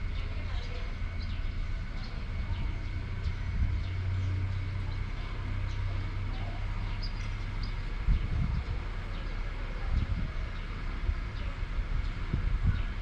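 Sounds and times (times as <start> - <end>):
low wind rumble: 0.0 - 13.0.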